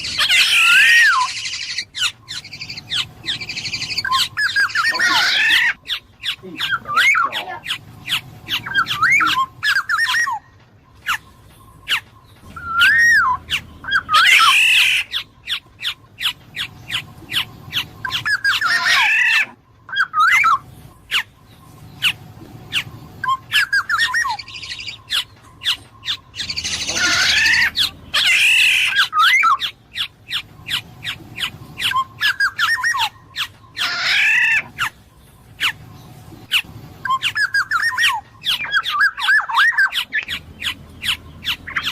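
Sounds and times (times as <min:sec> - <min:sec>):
harsh scratchy squawks: 0:00.0 - 0:35.0, 0:35.6 - 0:41.9
bird whistled notes: 0:00.0 - 0:41.9.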